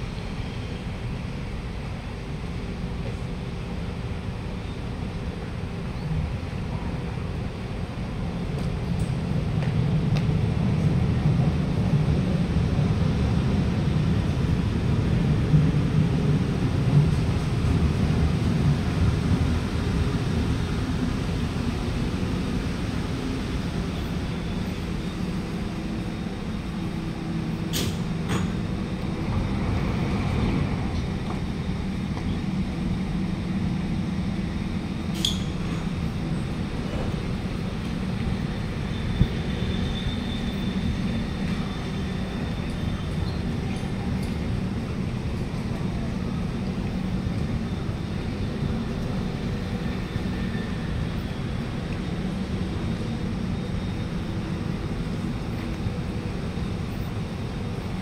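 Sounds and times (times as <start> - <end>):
metro train rumbling: 0.0 - 58.0.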